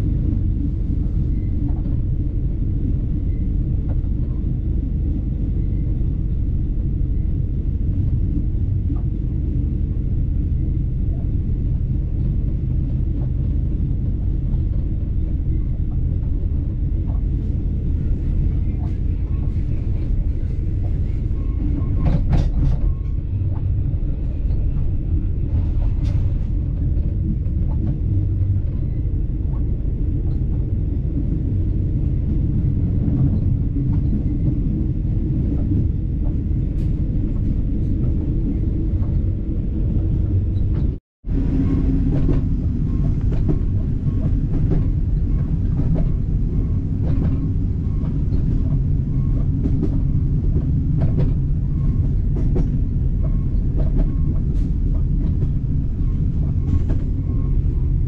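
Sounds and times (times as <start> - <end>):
train rumble from inside carriage: 0.0 - 58.0.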